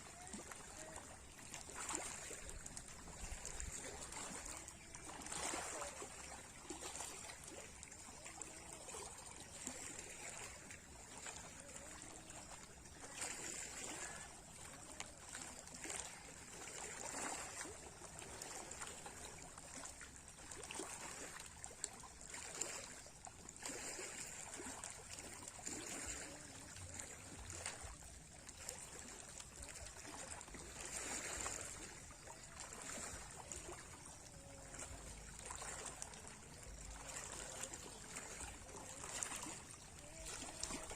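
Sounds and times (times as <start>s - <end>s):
small sea waves lapping: 0.0s - 40.9s.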